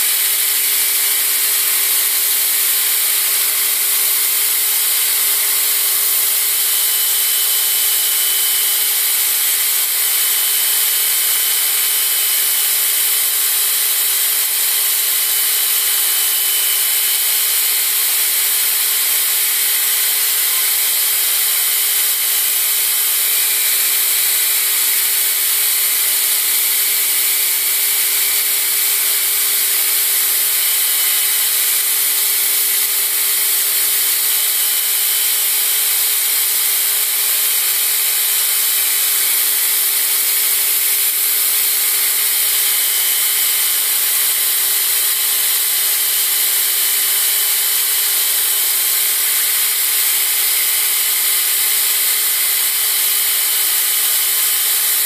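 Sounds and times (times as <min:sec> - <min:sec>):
belt grinder grinding steel: 0:00.0 - 0:55.0.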